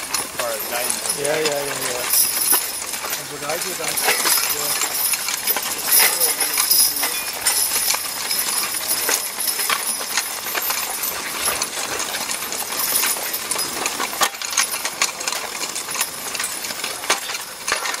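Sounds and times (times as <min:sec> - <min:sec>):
harness and plow clinking: 0:00.0 - 0:18.0
hoof steps: 0:00.0 - 0:18.0.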